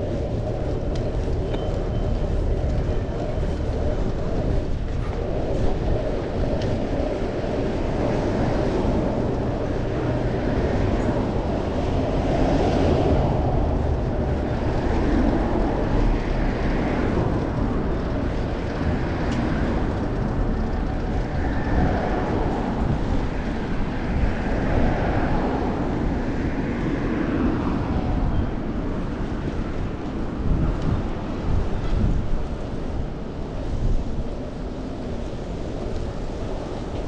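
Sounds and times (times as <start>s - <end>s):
road and traffic noise: 0.0s - 37.0s
wind buffeting microphone: 0.0s - 37.0s.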